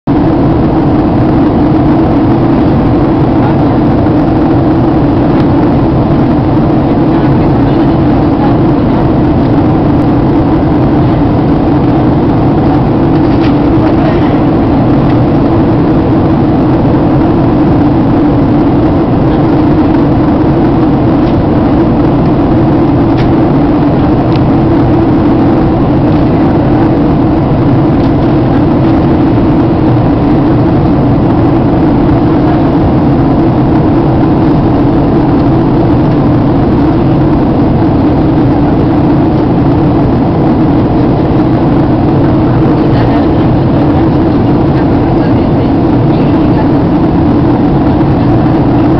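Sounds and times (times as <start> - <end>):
airflow over fuselage: 0.0 - 48.9
jet engines roaring in cabin: 0.0 - 48.9.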